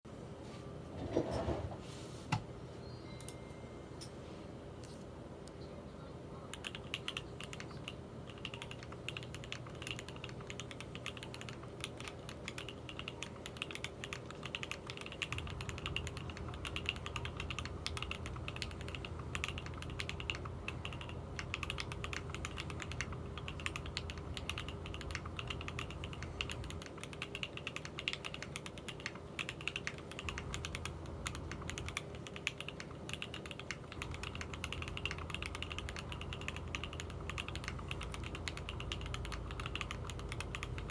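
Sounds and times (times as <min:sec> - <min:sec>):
faint steady hum: 0:00.1 - 0:40.9
typing on mechanical keyboard: 0:06.5 - 0:40.9.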